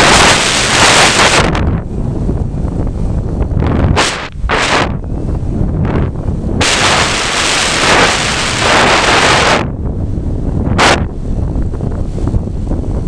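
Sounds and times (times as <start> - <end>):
gusty wind on microphone: 0.0 - 13.0.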